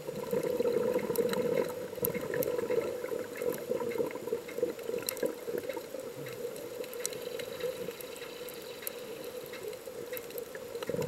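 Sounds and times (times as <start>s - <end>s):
muffled underwater wash: 0.0s - 11.0s
faint sharp clicks: 1.1s - 11.0s.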